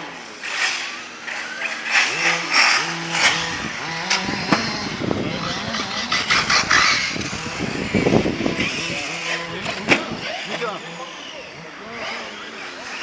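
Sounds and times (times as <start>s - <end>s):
remote control car running: 0.0s - 13.0s.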